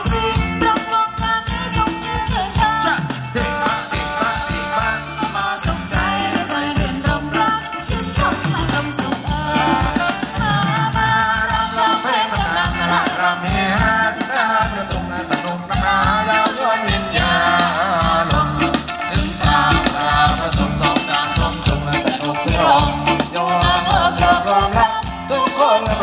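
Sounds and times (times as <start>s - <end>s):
live band playing dance music: 0.0s - 26.0s.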